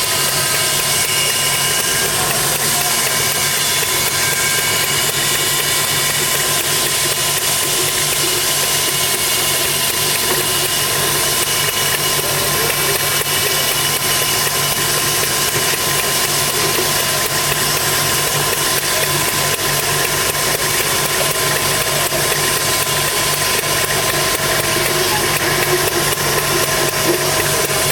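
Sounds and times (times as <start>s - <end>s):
engine idling: 0.0s - 27.9s.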